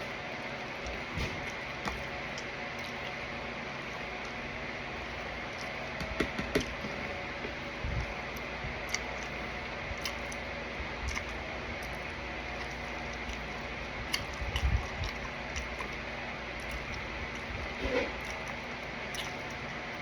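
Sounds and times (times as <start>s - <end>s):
short low hum: 0.0s - 18.2s
steady background hum: 0.0s - 20.0s
person chewing: 0.8s - 3.3s, 5.0s - 19.9s.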